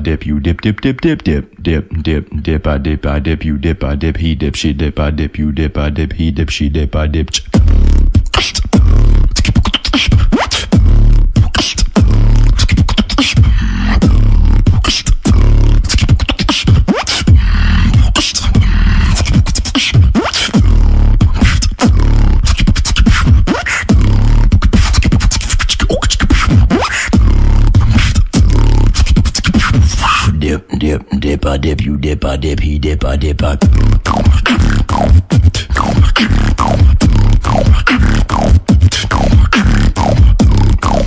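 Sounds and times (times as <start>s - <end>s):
person beatboxing: 0.0s - 41.0s.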